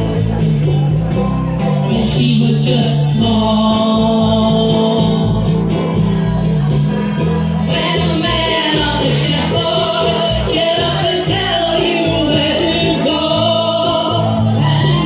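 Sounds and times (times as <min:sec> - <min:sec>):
held low bass notes: 0:00.0 - 0:15.0
ukulele ensemble strumming: 0:00.0 - 0:15.0
voices singing into microphones: 0:01.7 - 0:15.0.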